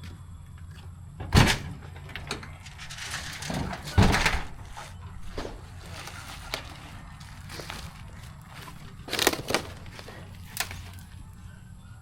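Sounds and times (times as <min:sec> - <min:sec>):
loud thuds: 0:01.2 - 0:11.3.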